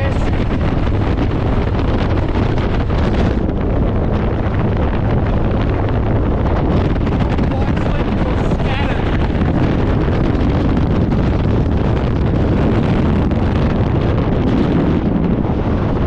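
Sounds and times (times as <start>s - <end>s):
road noise: 0.0s - 16.0s
wind rushing over microphone: 0.0s - 16.0s.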